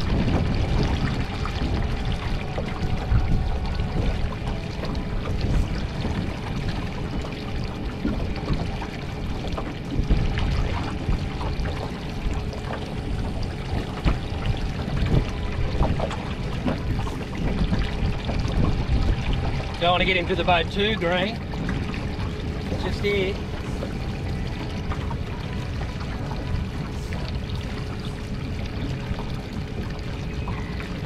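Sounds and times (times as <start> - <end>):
water slapping against hull: 0.0 - 31.0
wind buffeting microphone: 0.0 - 31.0.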